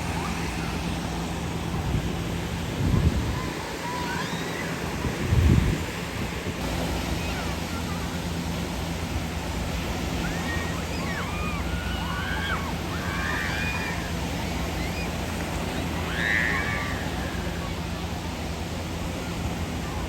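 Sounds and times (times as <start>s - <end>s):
sea surf: 0.0s - 20.0s
wind: 0.0s - 20.0s.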